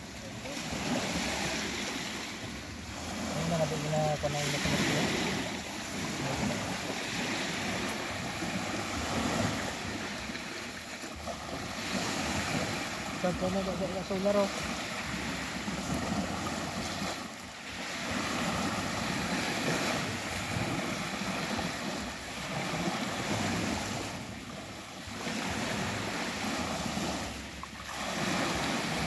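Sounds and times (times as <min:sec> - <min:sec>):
small waves breaking on beach: 0:00.0 - 0:29.0.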